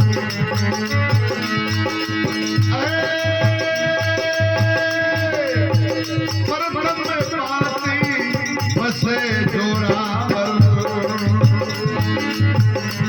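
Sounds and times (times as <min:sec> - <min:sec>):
hand drum beat: 0:00.0 - 0:13.0
ornamented melody line: 0:00.0 - 0:13.0
rattling percussion: 0:00.0 - 0:13.0.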